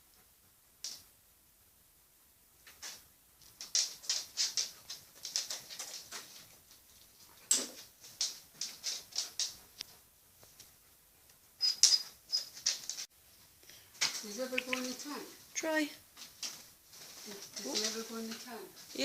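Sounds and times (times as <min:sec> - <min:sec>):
bird pecking and scratching: 0:02.6 - 0:13.1, 0:14.0 - 0:19.0.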